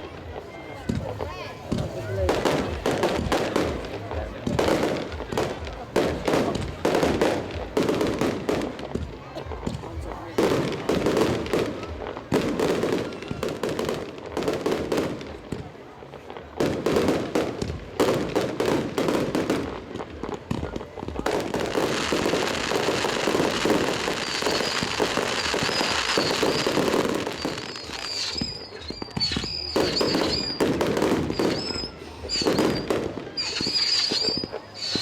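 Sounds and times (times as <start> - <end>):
fireworks bangs: 0.0 - 35.0
fireworks crackling: 0.0 - 35.0.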